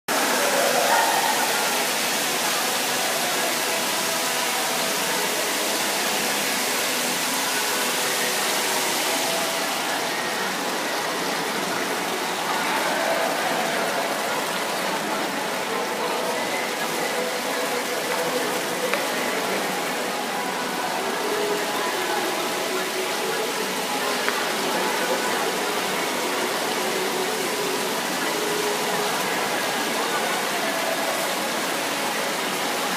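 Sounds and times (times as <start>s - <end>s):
water fountain splashing: 0.1s - 32.9s.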